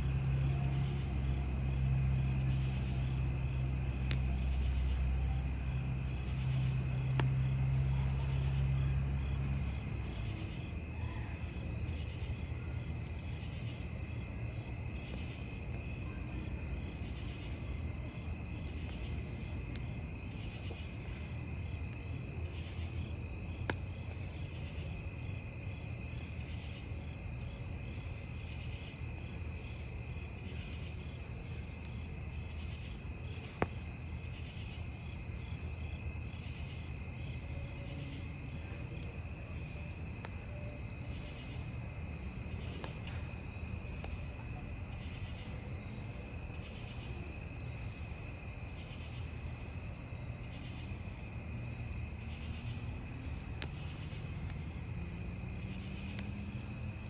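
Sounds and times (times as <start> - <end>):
campfire rumbling: 0.0 - 57.0
crickets chirping: 0.0 - 57.0
fire popping: 0.0 - 57.0.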